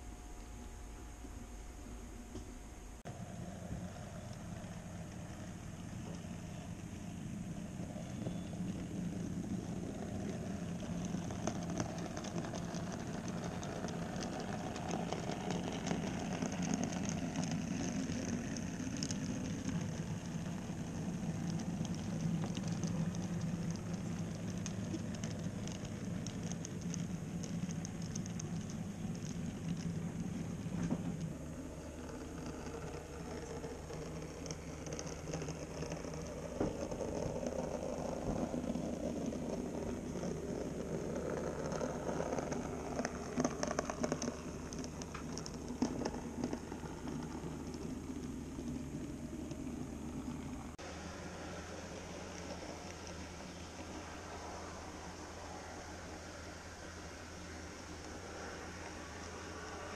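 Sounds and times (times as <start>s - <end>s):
model train motor hum: 0.0s - 59.9s
wheels clicking on rails: 0.0s - 59.9s.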